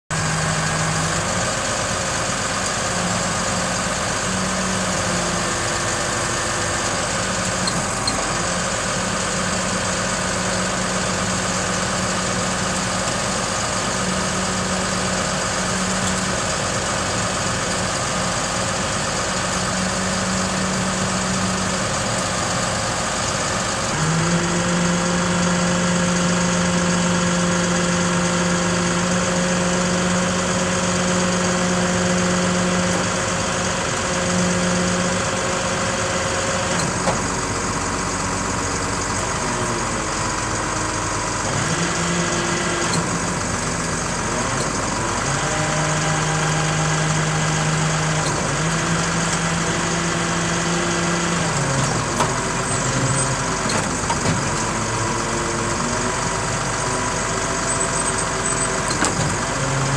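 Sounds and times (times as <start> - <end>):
truck engine idling: 0.1 - 59.9.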